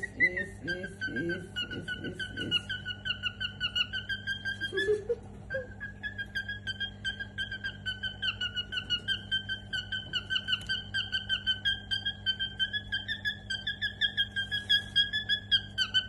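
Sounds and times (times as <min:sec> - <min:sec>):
cockatiel chirping: 0:00.0 - 0:16.0.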